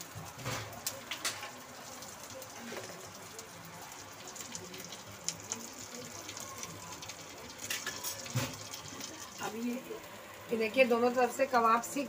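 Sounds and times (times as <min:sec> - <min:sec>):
hot oil popping: 0:00.0 - 0:12.0
kebabs sizzling in oil: 0:00.0 - 0:12.0.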